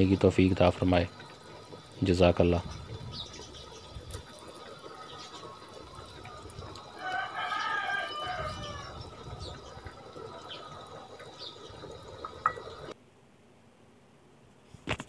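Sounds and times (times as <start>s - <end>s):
pot simmering bubbling: 0.0s - 13.0s.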